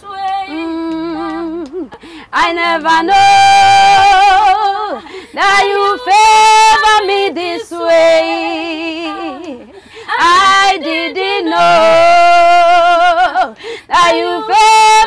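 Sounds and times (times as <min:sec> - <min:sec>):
women singing without accompaniment: 0:00.0 - 0:15.0.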